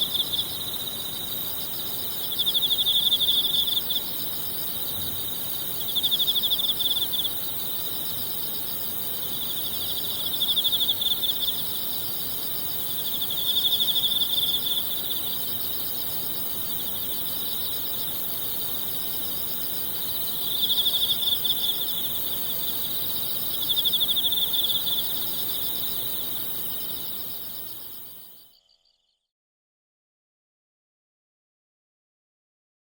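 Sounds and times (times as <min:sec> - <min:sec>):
high insect chorus: 0:00.0 - 0:29.2
insects trilling: 0:00.0 - 0:29.2.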